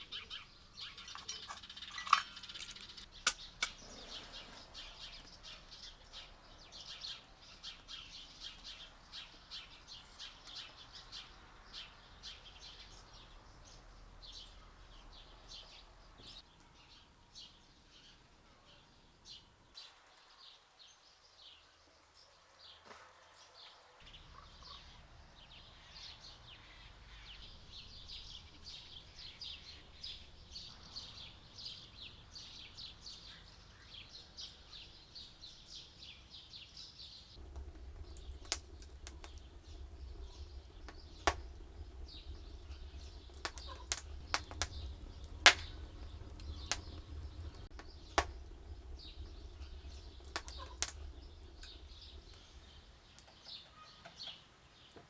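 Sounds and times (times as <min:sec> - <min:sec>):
birds chirping: 0:00.0 - 0:21.6, 0:24.0 - 0:55.0.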